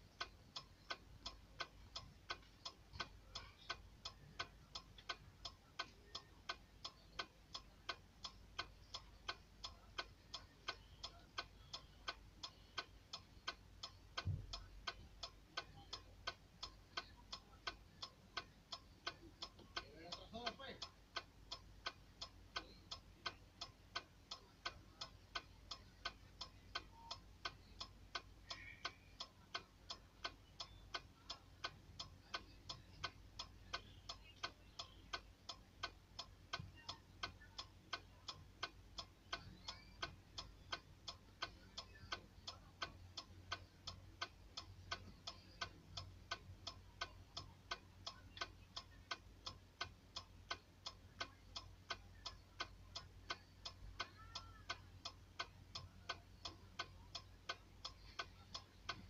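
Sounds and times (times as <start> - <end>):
sharp ticking: 0.0 - 59.0.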